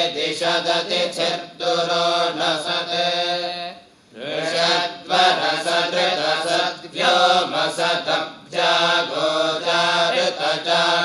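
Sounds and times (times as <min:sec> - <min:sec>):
men chanting hymns: 0:00.0 - 0:11.0.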